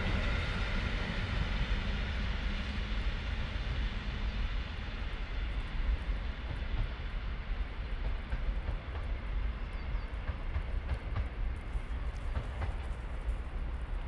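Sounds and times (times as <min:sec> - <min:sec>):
faint clatter of train wheels: 0:00.0 - 0:14.0
steady low train rumble: 0:00.0 - 0:14.0.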